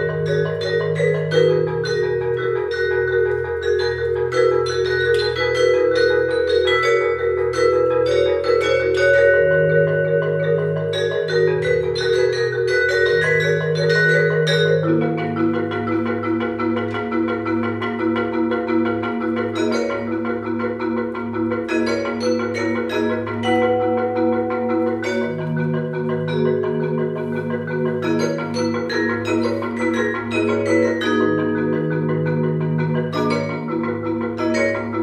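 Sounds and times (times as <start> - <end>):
low marimba line: 0.0 - 35.0
marimbas and vibraphones playing: 0.0 - 35.0.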